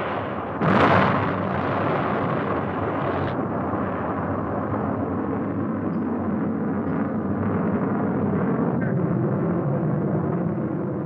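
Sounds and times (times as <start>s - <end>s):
rocket explosion blast: 0.0s - 10.8s
steady rumble: 0.0s - 11.0s.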